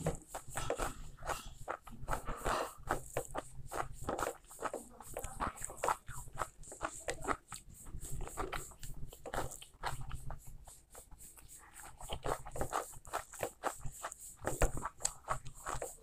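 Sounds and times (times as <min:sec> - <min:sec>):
person chewing food: 0:00.0 - 0:10.5, 0:11.2 - 0:16.0.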